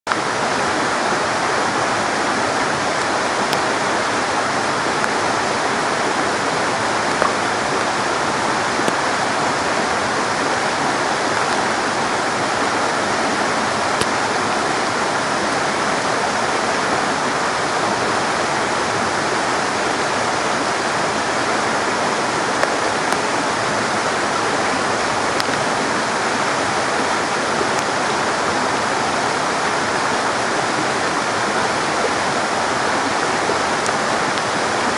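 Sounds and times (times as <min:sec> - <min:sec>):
river rushing loudly: 0:00.1 - 0:34.9.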